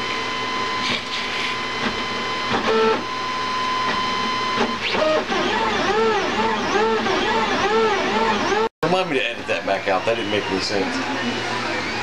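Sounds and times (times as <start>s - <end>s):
stepper motors whining: 0.3s - 8.7s, 9.4s - 12.0s.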